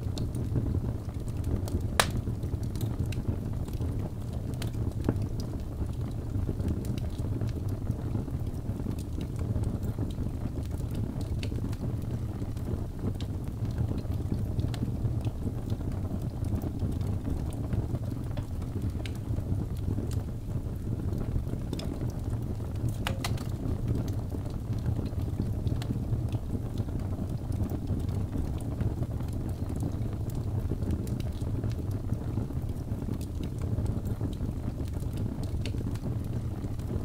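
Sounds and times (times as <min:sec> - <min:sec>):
fire crackles and pops: 0:00.0 - 0:37.0
flames rumbling in fireplace: 0:00.0 - 0:37.0.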